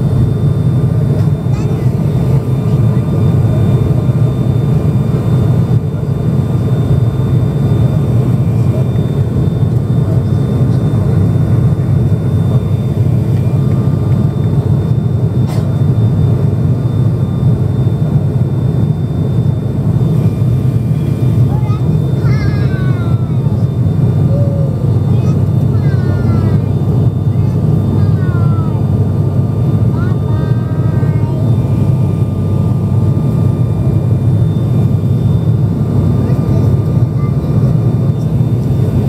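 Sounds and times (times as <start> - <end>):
turboprop engines droning in cabin: 0.0 - 39.0.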